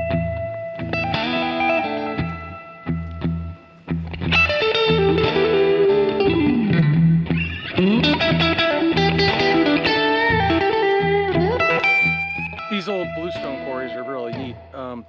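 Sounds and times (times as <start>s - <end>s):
steady bass line: 0.0s - 13.7s
distorted electric guitar: 0.0s - 15.0s.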